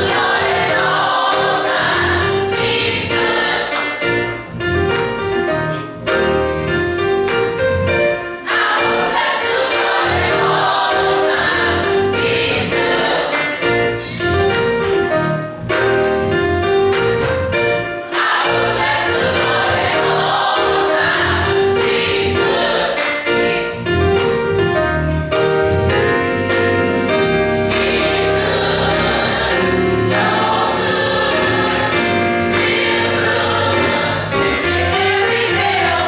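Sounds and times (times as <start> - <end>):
choir singing gospel: 0.0 - 15.2, 15.8 - 36.0
electronic keyboard: 0.0 - 36.0.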